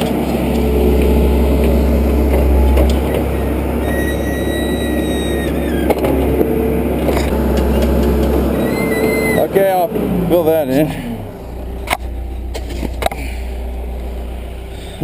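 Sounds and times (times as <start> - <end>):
thin high whine: 0.0 - 14.4
diesel engine running: 0.0 - 15.0.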